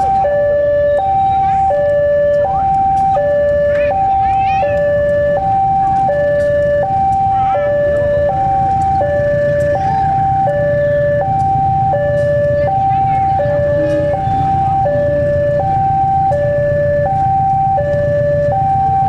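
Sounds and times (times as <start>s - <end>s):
diesel locomotive engine rumble: 0.0s - 19.0s
two-tone electronic warning signal: 0.0s - 19.0s.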